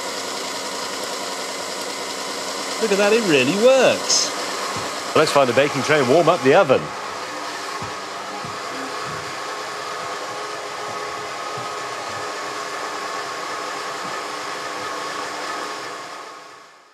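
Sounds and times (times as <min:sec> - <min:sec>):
food mixer running with whine: 0:00.0 - 0:16.9.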